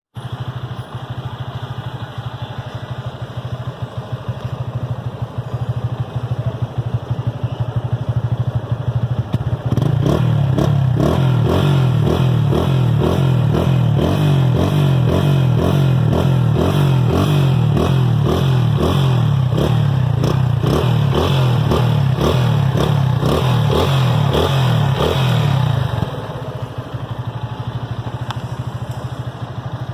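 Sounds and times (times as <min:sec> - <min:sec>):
motorcycle engine pulsing: 0:00.2 - 0:29.9.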